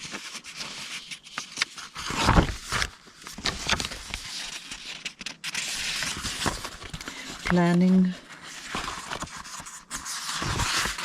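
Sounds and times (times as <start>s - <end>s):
paper cards rustling: 0.0s - 11.0s.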